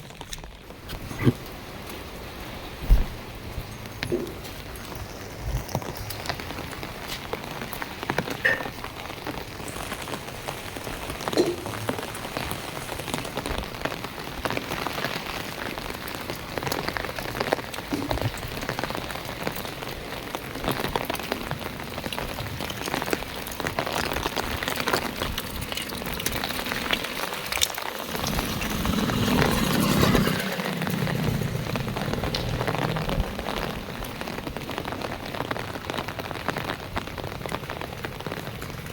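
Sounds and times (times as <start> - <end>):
heavy rain falling: 0.0 - 38.9
raindrops ticking: 0.0 - 38.9.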